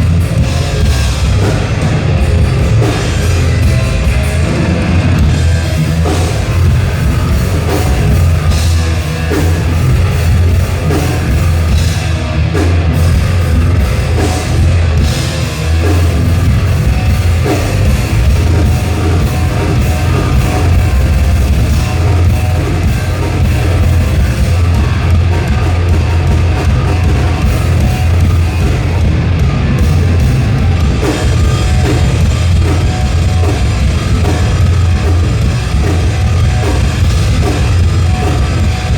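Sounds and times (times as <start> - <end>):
bass guitar: 0.0 - 38.9
distorted electric guitars: 0.0 - 38.9
pounding drum kit: 0.0 - 38.9.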